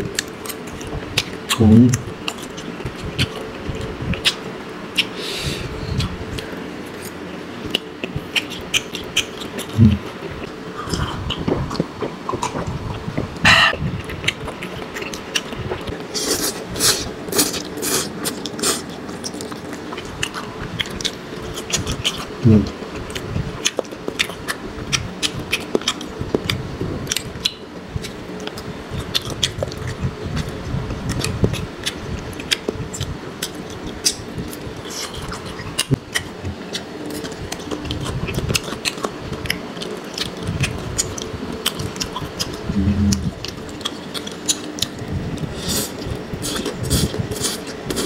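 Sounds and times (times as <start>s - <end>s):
chewing with wet clicks: 0.1s - 4.4s, 6.0s - 12.7s, 14.0s - 16.4s, 17.4s - 22.3s, 22.9s - 45.0s.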